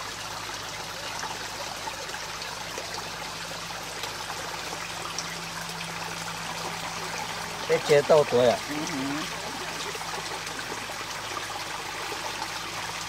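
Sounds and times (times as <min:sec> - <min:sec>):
water trickling over stones: 0:00.0 - 0:13.0.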